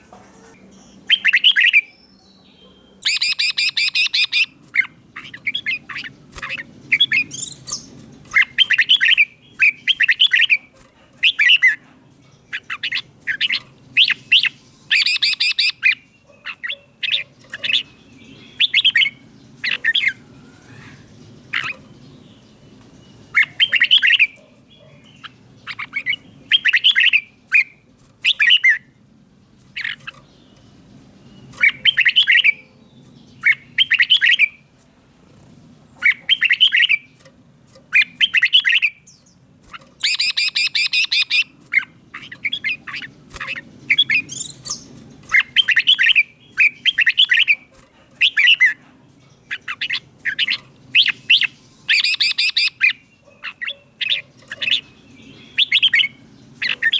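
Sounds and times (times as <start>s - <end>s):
bird singing clear phrases: 0.0s - 56.9s.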